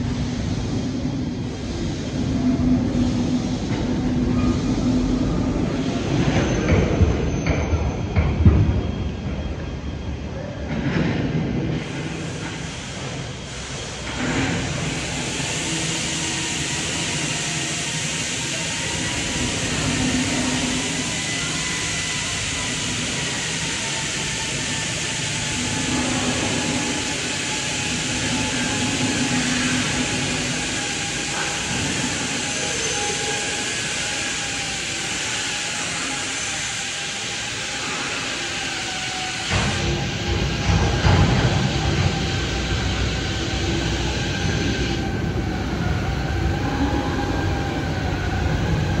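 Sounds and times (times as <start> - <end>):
factory machinery rushing: 0.0 - 49.0.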